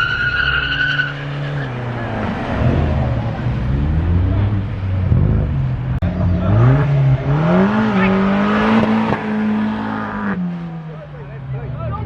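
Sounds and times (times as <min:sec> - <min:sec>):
car engine accelerating: 0:00.6 - 0:12.0.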